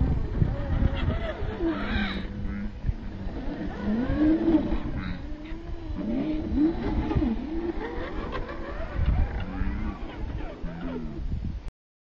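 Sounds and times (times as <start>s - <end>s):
electric motor whining: 0.0s - 11.2s.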